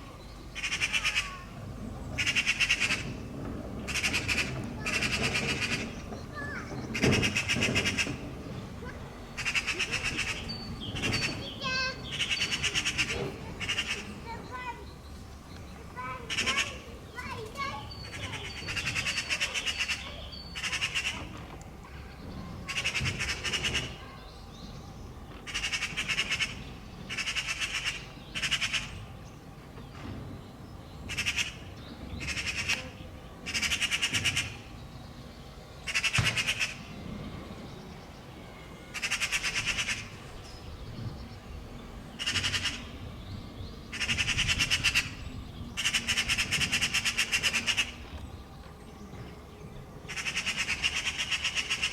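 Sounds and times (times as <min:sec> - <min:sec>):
magpies harsh rattling chatter: 0:00.0 - 0:51.9.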